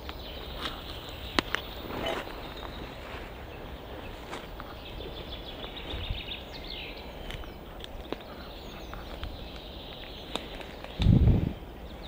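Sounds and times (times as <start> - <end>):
birds chirping: 0.0 - 12.0
steady outdoor hiss: 0.0 - 12.0.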